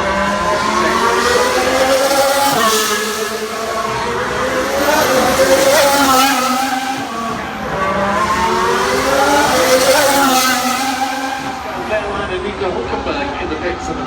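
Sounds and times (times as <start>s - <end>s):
racing car engines: 0.0s - 14.0s.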